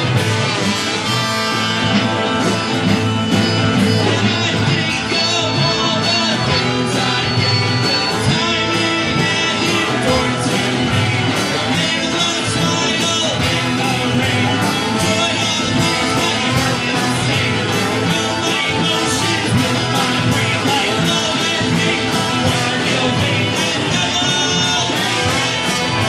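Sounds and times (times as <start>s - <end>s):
live rock band playing: 0.0s - 26.0s
person singing: 2.4s - 26.0s.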